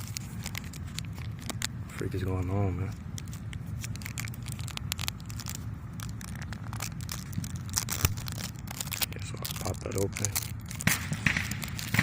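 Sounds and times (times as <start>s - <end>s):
plastic film crinkling and tearing: 0.0s - 12.0s.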